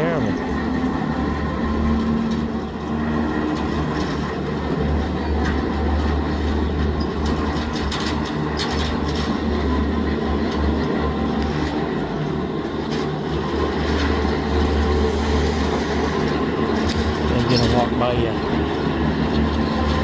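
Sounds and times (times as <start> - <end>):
boat hoist mechanical rumble: 0.0 - 20.0.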